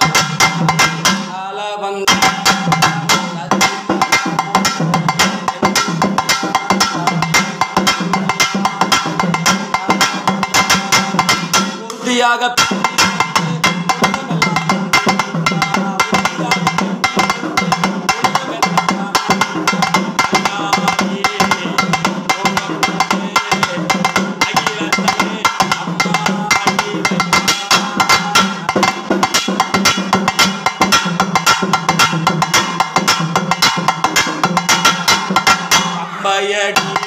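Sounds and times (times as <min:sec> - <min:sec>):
fast stick drumming: 0:00.0 - 0:01.4, 0:02.1 - 0:36.0, 0:36.7 - 0:37.0.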